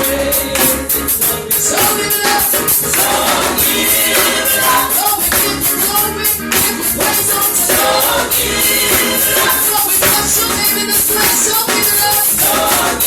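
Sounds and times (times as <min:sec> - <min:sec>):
choir singing over a band: 0:00.0 - 0:13.0
tambourine shaking: 0:00.0 - 0:13.0.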